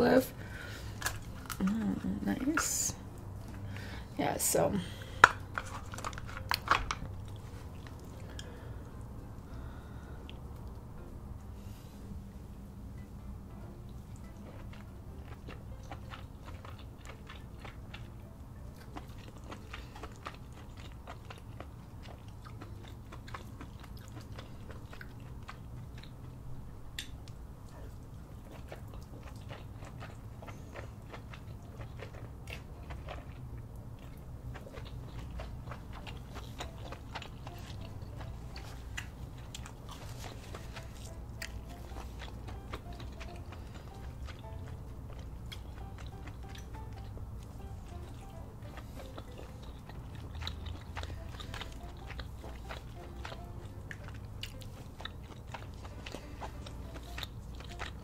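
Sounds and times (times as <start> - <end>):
steady low hum: 0.0 - 58.0
wet chewing and mouth smacks: 5.1 - 10.8, 13.9 - 58.0.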